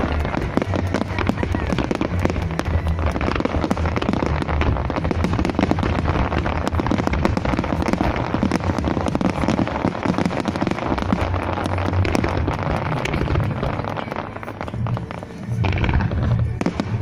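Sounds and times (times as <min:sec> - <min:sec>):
low rumble: 0:00.0 - 0:10.1, 0:10.7 - 0:17.0
fireworks crackling: 0:00.0 - 0:17.0.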